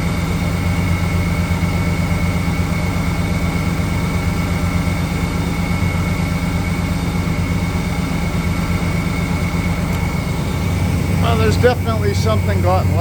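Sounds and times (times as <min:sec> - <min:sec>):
thin high belt whine: 0:00.0 - 0:13.0
truck engine idling: 0:00.0 - 0:13.0.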